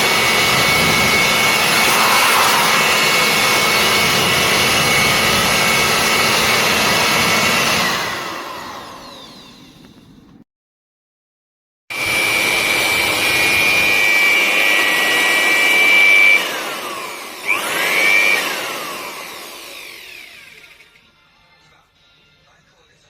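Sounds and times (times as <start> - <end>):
electric hand blower whining: 0.0 - 10.4, 11.9 - 21.0.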